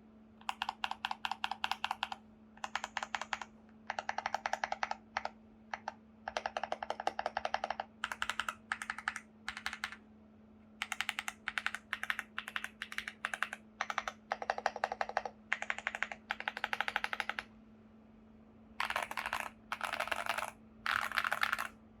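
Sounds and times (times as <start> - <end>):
faint steady hum: 0.0 - 22.0
mechanical keyboard typing: 0.4 - 10.0, 10.8 - 17.5, 18.8 - 21.8.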